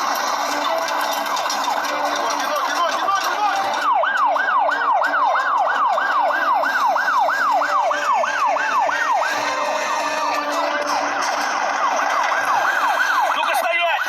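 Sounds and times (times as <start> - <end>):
police siren yelp and warble: 0.0 - 14.0.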